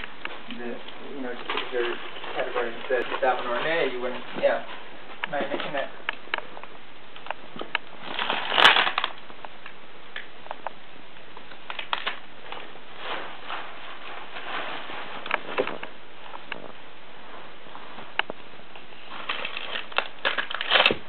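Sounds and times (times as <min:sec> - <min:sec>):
plastic packaging crinkling: 0:00.0 - 0:06.3, 0:07.3 - 0:10.3, 0:11.4 - 0:16.8, 0:18.0 - 0:21.0.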